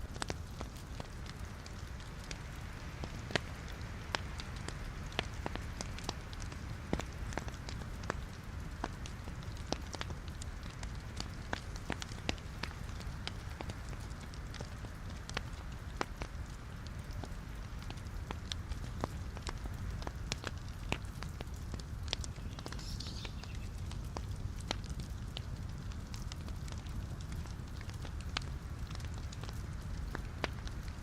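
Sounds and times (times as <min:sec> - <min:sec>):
low rumble of flames: 0:00.0 - 0:31.0
wood crackling and popping: 0:00.0 - 0:31.0.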